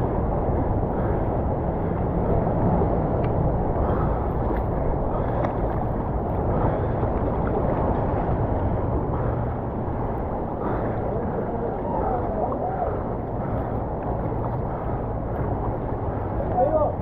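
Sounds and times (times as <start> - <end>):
wind on microphone: 0.0 - 17.0
whitewater rapids rushing: 1.4 - 17.0.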